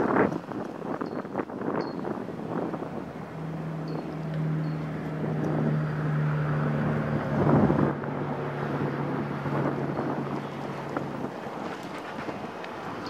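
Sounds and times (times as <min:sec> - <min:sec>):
diesel locomotive engine hum: 0:00.0 - 0:13.0
wind buffeting microphone: 0:00.0 - 0:13.0.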